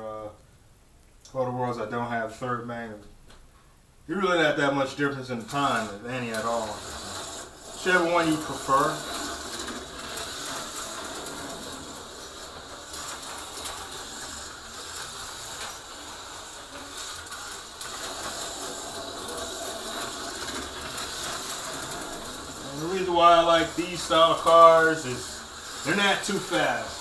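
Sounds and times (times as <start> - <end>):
slot cars whirring: 4.4 - 27.0.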